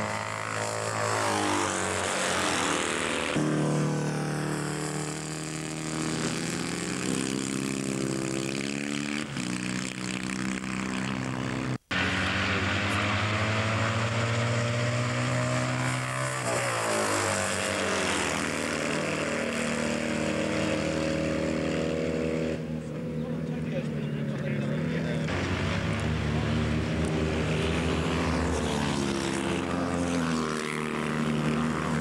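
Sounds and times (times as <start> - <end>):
motorcycle engines revving: 0.0 - 32.0
motorcycle passing by: 0.0 - 32.0.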